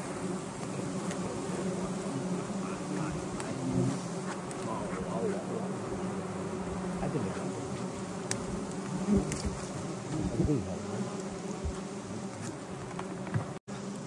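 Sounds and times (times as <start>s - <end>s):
bees buzzing: 0.0s - 14.0s
bees flying close past: 0.0s - 14.0s.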